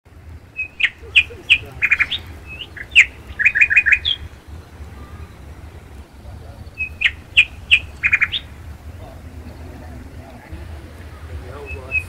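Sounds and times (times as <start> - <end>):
songbirds chirping: 0.0 - 12.0
low steady rumble: 0.1 - 12.0.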